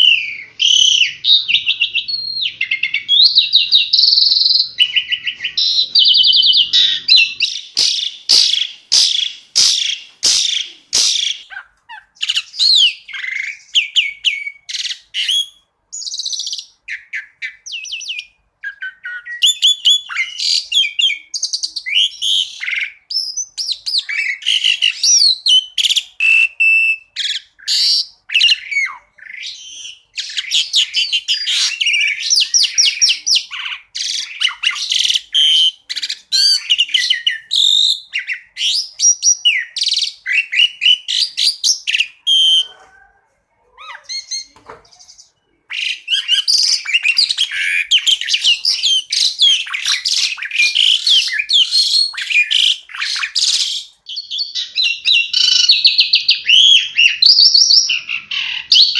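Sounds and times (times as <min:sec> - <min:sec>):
songbird singing: 0:00.0 - 0:43.2, 0:43.8 - 0:58.9.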